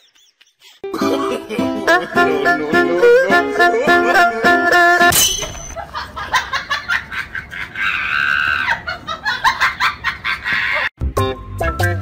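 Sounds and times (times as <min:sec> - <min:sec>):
people laughing: 0:00.0 - 0:04.6, 0:05.8 - 0:10.9.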